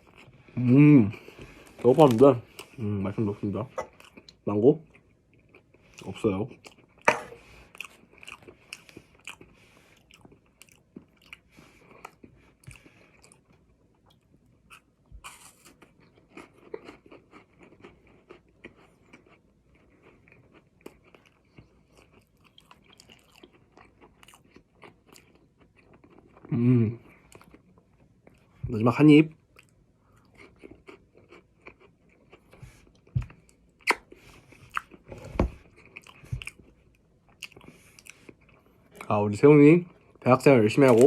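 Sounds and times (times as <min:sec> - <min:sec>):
person chewing crunchy cereal: 0:00.0 - 0:28.5, 0:29.4 - 0:39.2, 0:39.8 - 0:41.0.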